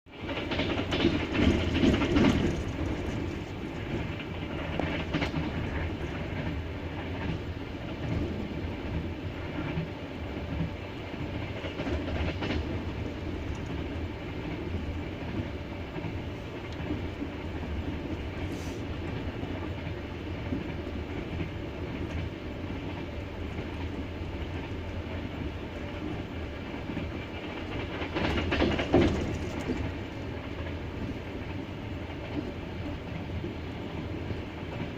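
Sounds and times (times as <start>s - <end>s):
train rumble: 0.1s - 34.9s
train wheels clattering: 0.2s - 33.5s.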